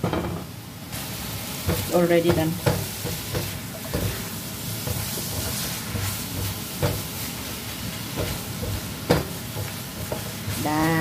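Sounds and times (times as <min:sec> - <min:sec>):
food sizzling in a wok: 0:00.0 - 0:11.0
spatula scraping and knocking pan: 0:01.6 - 0:11.0.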